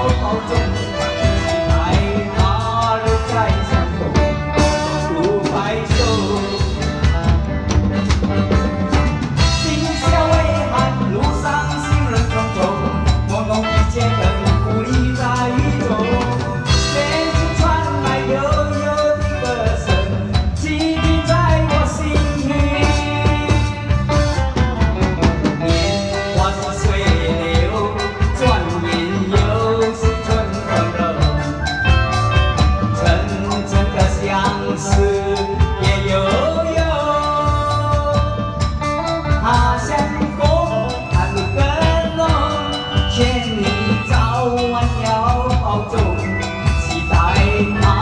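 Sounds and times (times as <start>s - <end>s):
pop song: 0.0s - 48.0s
steady drum beat: 0.0s - 48.0s.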